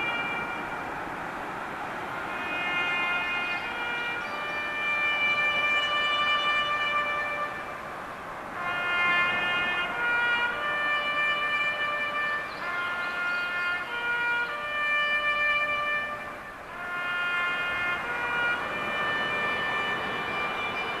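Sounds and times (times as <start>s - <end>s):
slow music of long notes: 2.3s - 7.8s, 8.6s - 21.0s.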